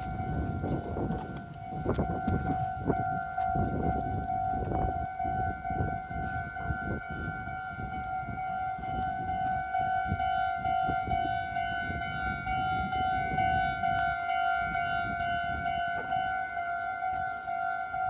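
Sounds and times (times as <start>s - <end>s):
level-crossing warning bell: 0.0s - 18.0s.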